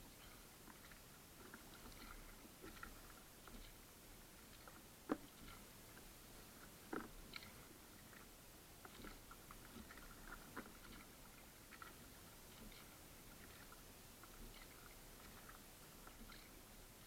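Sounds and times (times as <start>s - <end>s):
water drips and splashes: 0.1s - 17.0s.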